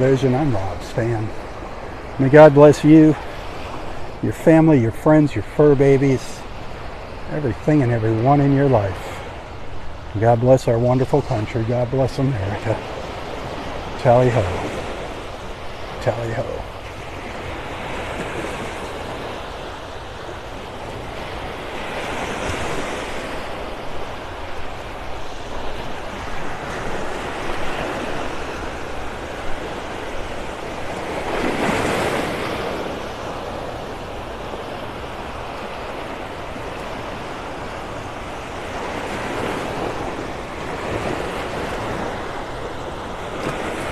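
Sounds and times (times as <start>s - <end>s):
waves breaking on sandy beach: 0.0s - 43.9s.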